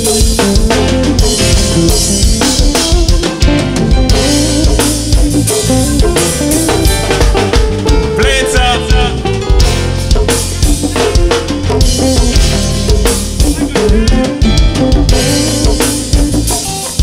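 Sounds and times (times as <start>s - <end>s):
hip-hop beat: 0.0s - 17.0s.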